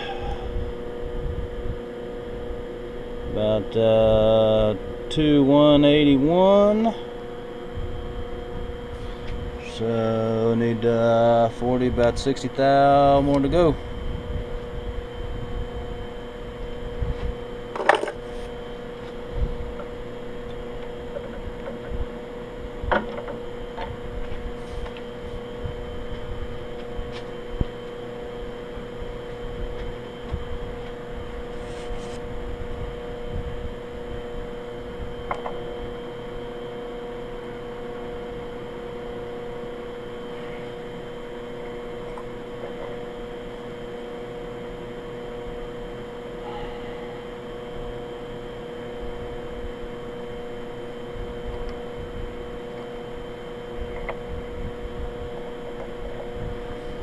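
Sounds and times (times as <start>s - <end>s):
machine shop hum: 0.0s - 57.0s.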